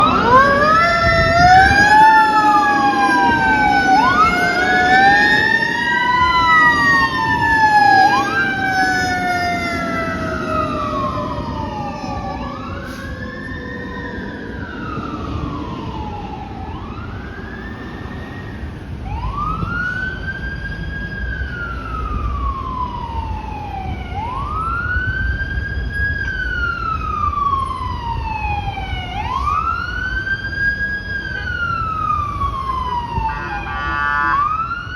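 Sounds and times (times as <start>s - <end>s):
fire truck sirens wailing: 0.0s - 34.9s
truck engine rumble: 0.0s - 34.9s.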